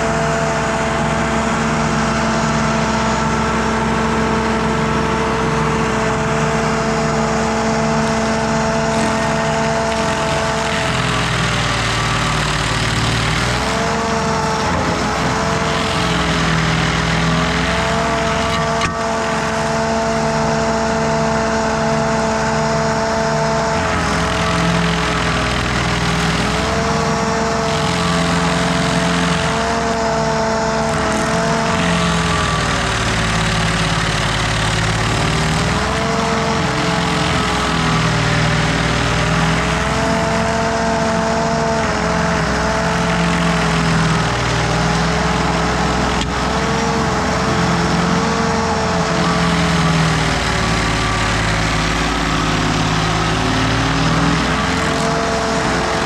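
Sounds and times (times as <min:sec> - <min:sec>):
cutter wheel grinding stump: 0:00.0 - 0:56.0
stump grinder engine: 0:00.0 - 0:56.0.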